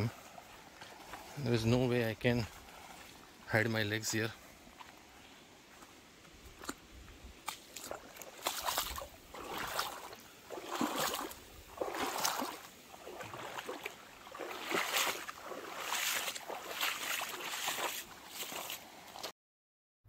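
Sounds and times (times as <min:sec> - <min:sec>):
water sloshing from wading steps: 0:00.0 - 0:03.5, 0:04.4 - 0:19.3.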